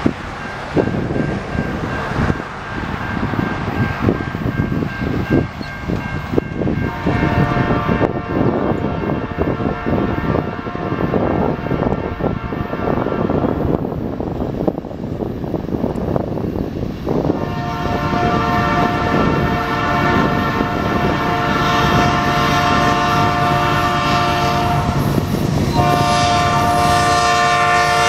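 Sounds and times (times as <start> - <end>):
diesel locomotive engine rumble: 0.0 - 28.0.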